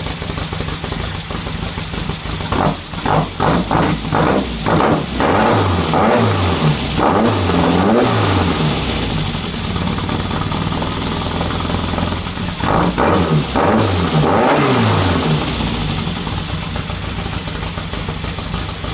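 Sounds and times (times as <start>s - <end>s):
car engine revving and idling: 0.0s - 18.9s.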